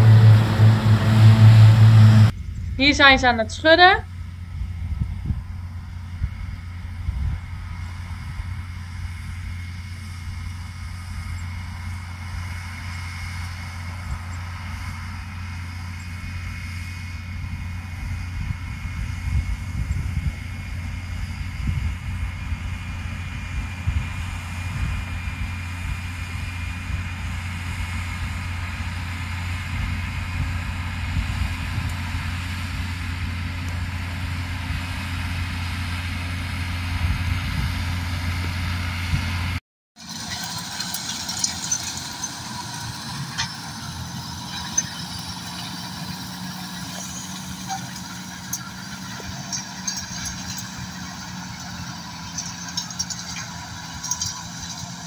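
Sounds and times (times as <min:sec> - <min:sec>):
higher-pitched tractor engine: 0:00.0 - 0:55.0
tractor engine running: 0:00.0 - 0:55.0.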